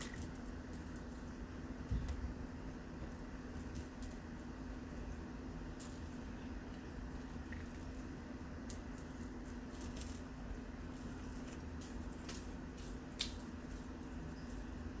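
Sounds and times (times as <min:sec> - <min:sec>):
cats playing with toy rustles: 0:00.0 - 0:01.8, 0:03.0 - 0:04.8, 0:05.6 - 0:15.0
steady low hum: 0:00.0 - 0:15.0.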